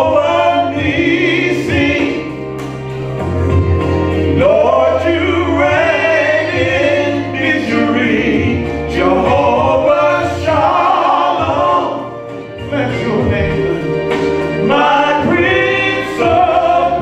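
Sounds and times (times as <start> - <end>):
instrumental accompaniment: 0.0 - 17.0
men singing gospel song: 0.0 - 17.0.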